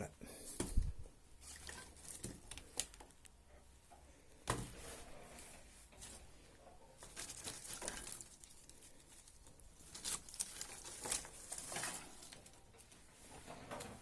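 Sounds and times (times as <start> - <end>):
rustling of objects handled: 0.4 - 14.0.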